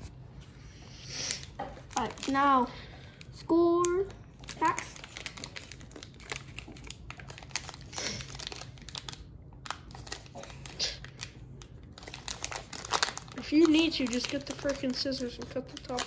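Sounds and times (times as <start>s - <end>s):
plastic wrapper crinkling: 1.3s - 16.0s.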